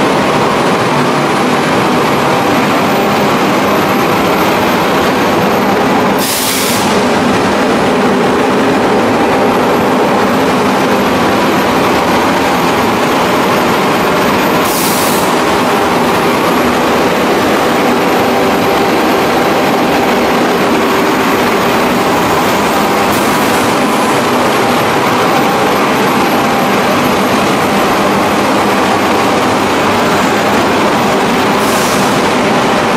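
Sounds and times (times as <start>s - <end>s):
machine fans and motors whirring: 0.0s - 32.9s.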